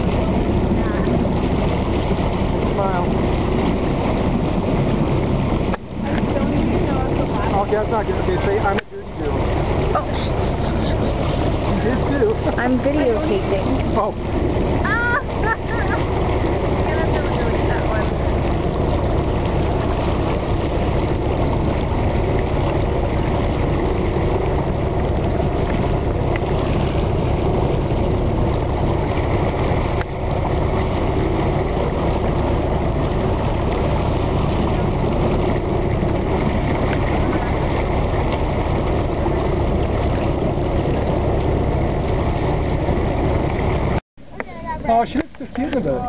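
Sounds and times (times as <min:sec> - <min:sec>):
motorboat engine running: 0:00.0 - 0:46.0
water rushing: 0:00.0 - 0:46.0
wind: 0:00.0 - 0:46.0.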